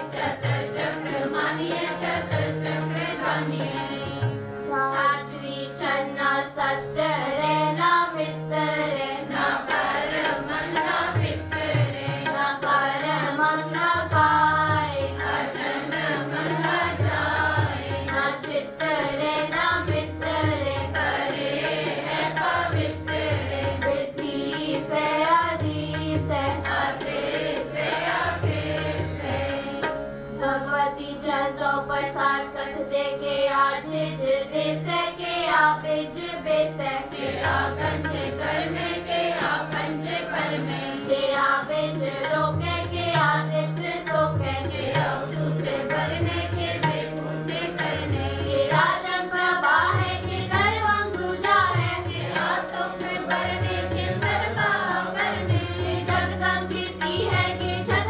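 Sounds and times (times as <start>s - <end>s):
girls singing a hymn: 0.0s - 4.1s, 4.8s - 29.8s, 30.4s - 58.0s
harmonium chords: 0.0s - 58.0s
tabla rhythm: 0.0s - 58.0s.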